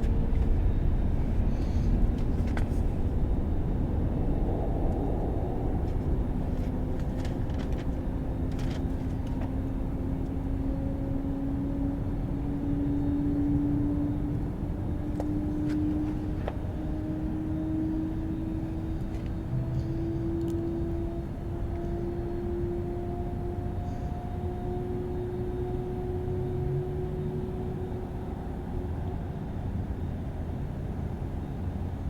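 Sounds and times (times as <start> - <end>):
jet engines at takeoff power: 0.0 - 32.0.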